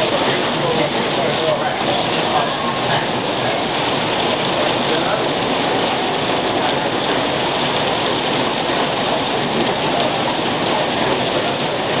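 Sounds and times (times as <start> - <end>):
heavy rain on pavement: 0.0 - 12.0.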